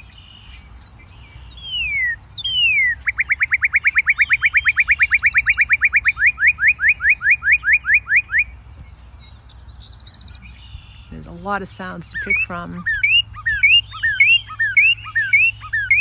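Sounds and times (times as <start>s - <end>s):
bird song whistles: 0.0s - 11.4s, 12.1s - 16.0s.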